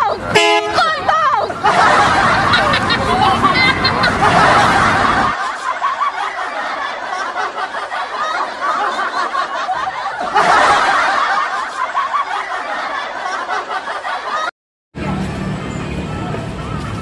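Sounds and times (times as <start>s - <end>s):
people snickering and laughing: 0.0s - 14.5s.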